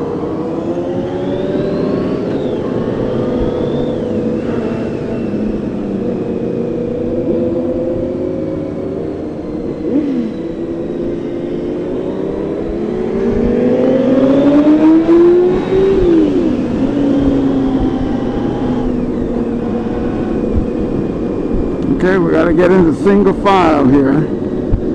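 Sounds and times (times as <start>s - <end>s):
motorcycle accelerating: 0.0s - 24.9s
motorcycle engines running: 0.0s - 24.9s.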